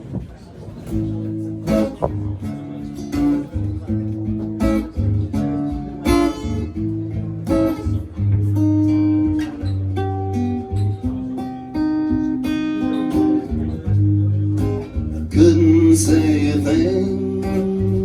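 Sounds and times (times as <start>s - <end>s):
guitar strummed chords: 0.0s - 18.0s.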